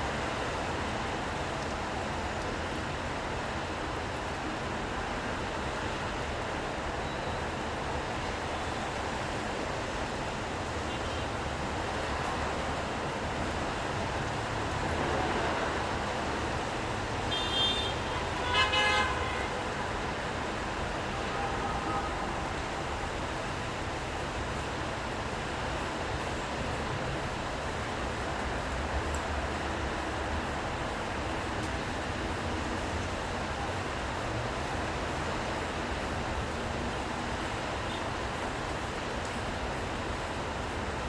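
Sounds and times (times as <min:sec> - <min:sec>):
rain: 0:00.0 - 0:41.0.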